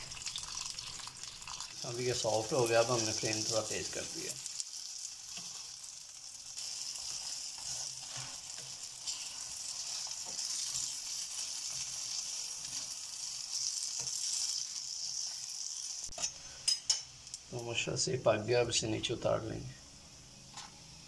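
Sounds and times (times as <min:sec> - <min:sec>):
flatbread sizzling in oil: 0:00.0 - 0:18.1.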